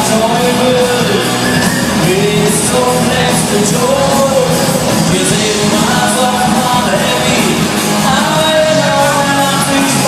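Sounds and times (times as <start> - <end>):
live rock band music: 0.0 - 10.0
person singing: 0.0 - 10.0.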